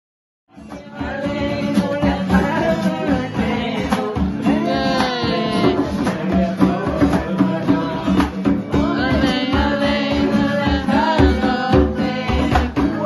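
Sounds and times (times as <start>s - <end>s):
acoustic guitar strumming: 0.5s - 13.0s
person singing wordlessly: 0.5s - 13.0s
hand drum beat: 0.6s - 13.0s.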